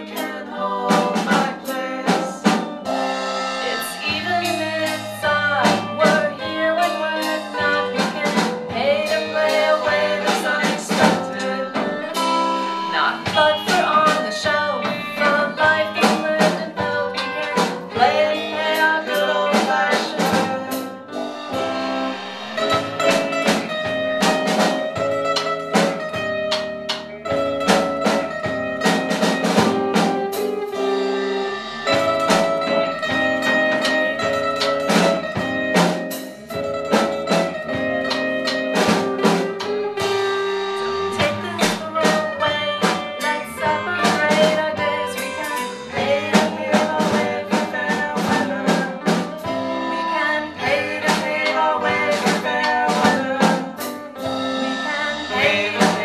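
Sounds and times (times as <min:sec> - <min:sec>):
bass guitar: 0:00.0 - 0:56.0
drum kit beat: 0:00.0 - 0:56.0
electric guitar: 0:00.0 - 0:56.0
strummed acoustic guitar: 0:00.0 - 0:56.0.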